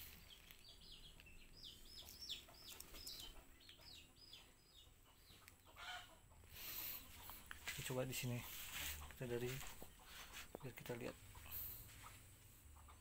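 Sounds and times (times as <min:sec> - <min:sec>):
faint bird chirping: 0:00.0 - 0:13.0.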